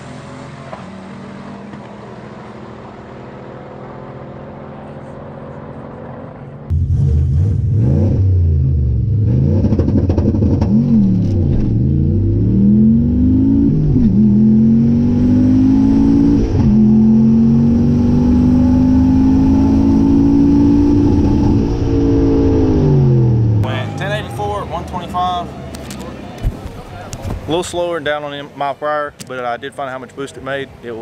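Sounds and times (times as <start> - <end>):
drag car accelerating: 0.0 - 26.4.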